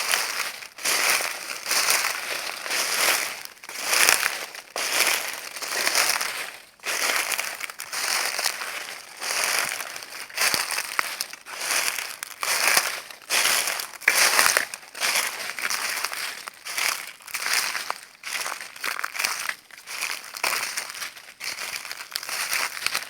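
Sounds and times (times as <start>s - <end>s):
footsteps crunching dry leaves: 0.0s - 23.0s.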